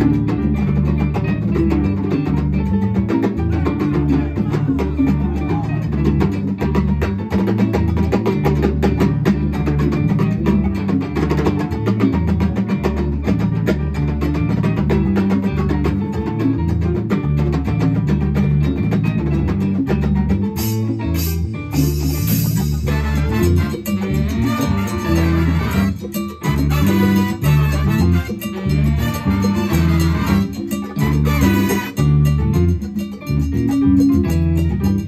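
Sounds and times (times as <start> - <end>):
latin band playing live: 0.0 - 35.0.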